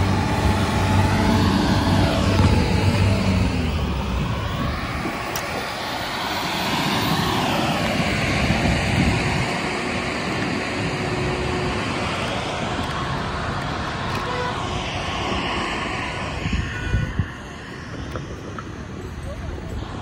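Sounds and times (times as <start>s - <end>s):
city traffic: 0.0s - 20.0s
wind rush on microphone: 0.0s - 20.0s.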